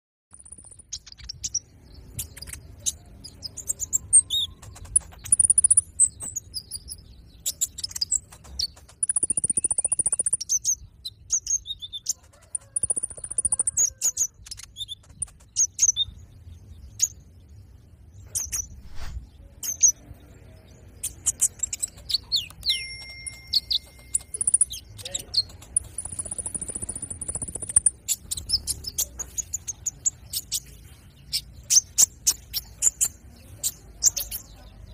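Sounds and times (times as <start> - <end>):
bird chirping rapidly: 0.3 - 34.9.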